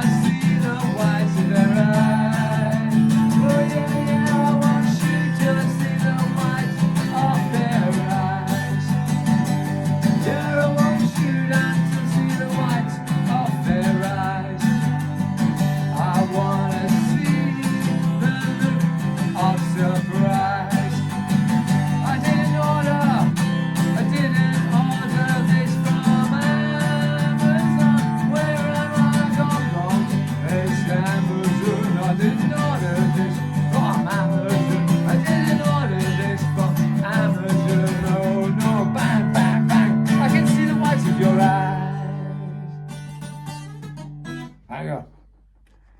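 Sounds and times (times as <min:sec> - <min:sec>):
song with strummed acoustic guitar: 0:00.0 - 0:45.9.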